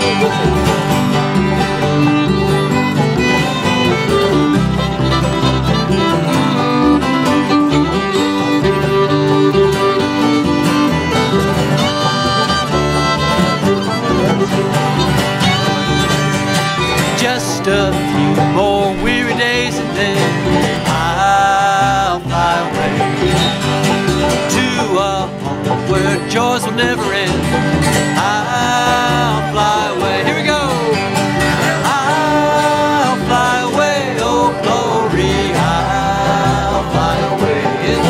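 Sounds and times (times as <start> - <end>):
acoustic guitars: 0.0 - 38.0
banjo: 0.0 - 38.0
fiddle: 0.0 - 38.0
mandolins: 0.0 - 38.0
upright bass: 0.0 - 38.0.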